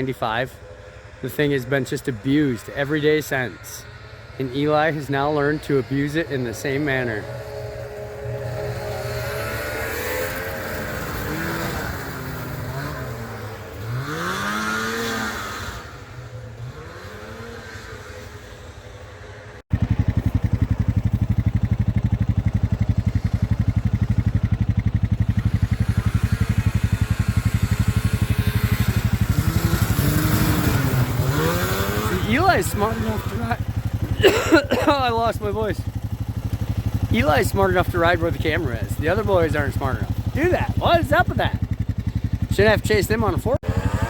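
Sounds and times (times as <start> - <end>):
snowmobile engines passing: 0.0 - 44.0
engine running close and steady: 3.5 - 44.0.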